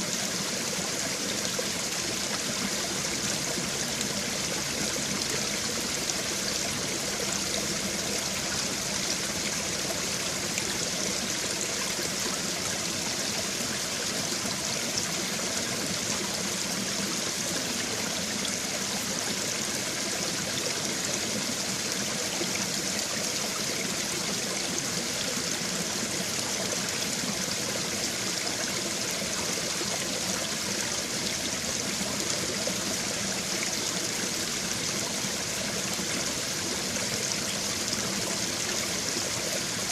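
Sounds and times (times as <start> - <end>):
stream water running over stones: 0.0 - 39.9.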